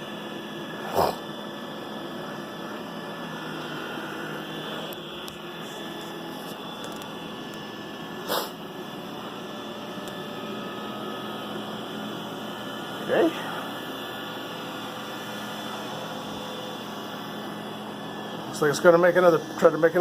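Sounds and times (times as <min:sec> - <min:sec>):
robot vacuum running on carpet: 0:00.0 - 0:20.0.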